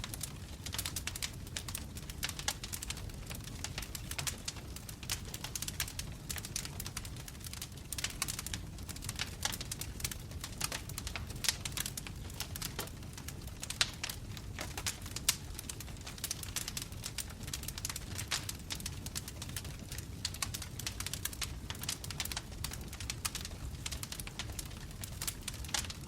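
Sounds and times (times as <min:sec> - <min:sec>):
flames rumbling: 0:00.0 - 0:26.0
logs crackling and popping: 0:00.0 - 0:26.0.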